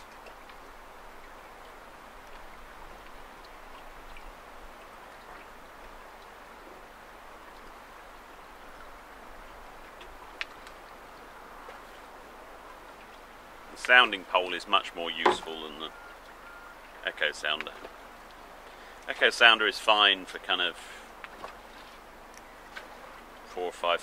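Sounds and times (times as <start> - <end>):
water washing along boat hull: 0.0 - 24.0.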